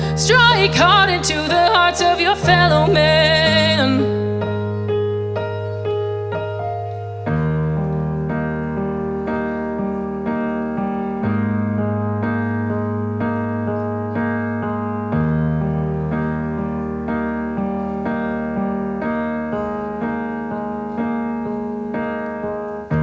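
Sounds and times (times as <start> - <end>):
piano chords: 0.0 - 23.0.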